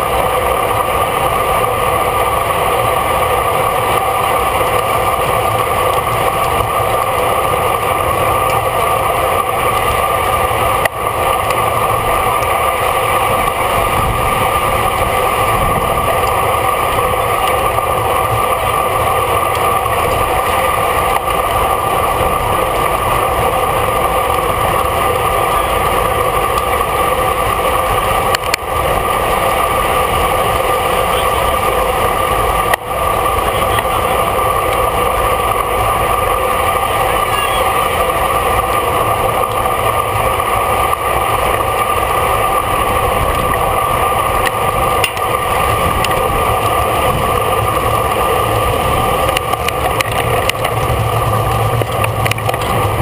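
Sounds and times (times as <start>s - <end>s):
wind rush: 0.0s - 30.9s, 37.8s - 53.0s
bicycle road noise: 0.0s - 53.0s.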